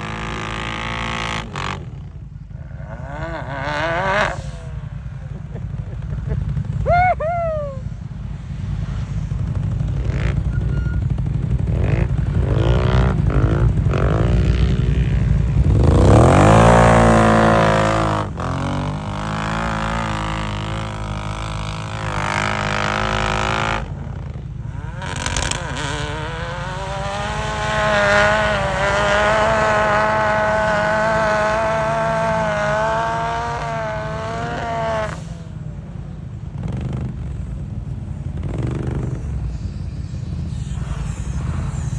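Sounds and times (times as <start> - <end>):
off-road engine revving hard: 0.0 - 7.8, 8.9 - 41.9.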